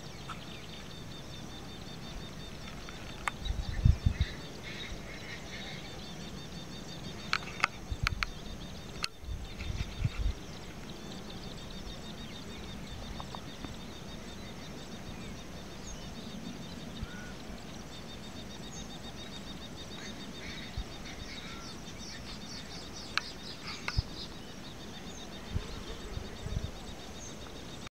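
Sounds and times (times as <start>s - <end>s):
bird chirps: 0.0s - 27.9s.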